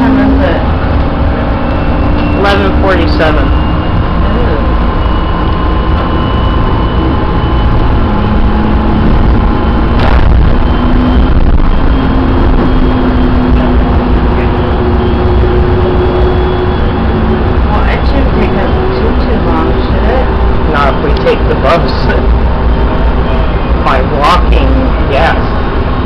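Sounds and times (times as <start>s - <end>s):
passing train: 0.0s - 26.0s
train motors whining: 0.0s - 26.0s
train rumbling on track: 0.0s - 26.0s.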